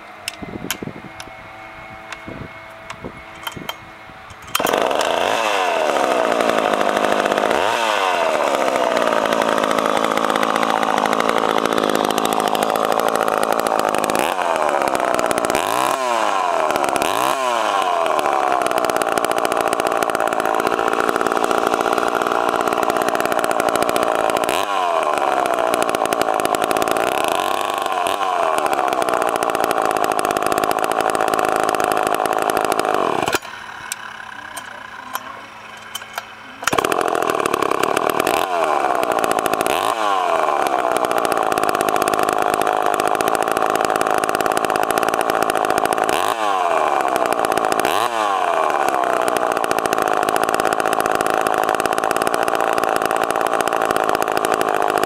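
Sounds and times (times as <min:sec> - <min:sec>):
chainsaw engine running: 0:00.0 - 0:55.0.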